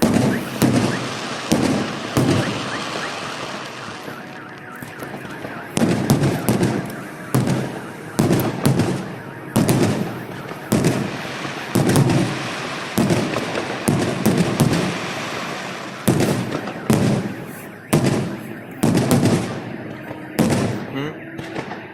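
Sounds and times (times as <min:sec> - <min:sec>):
fireworks bursting with crackle: 0:00.0 - 0:21.9.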